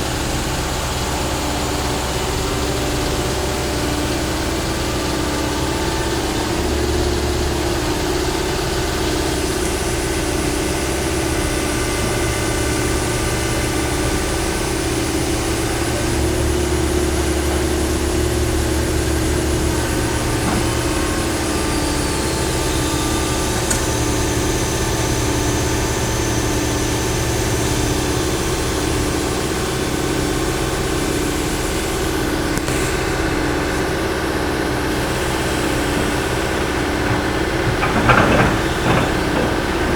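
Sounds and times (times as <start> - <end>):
excavator diesel engine rumble: 0.0 - 39.9.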